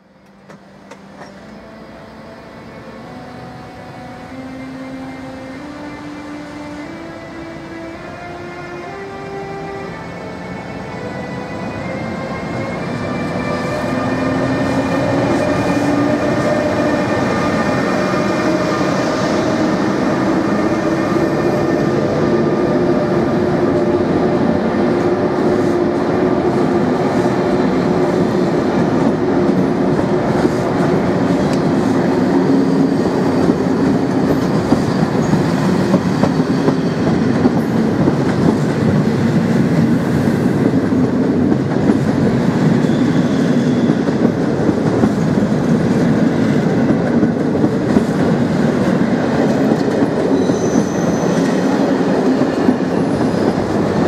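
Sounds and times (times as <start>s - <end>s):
train coaches rumbling: 0.0s - 54.0s.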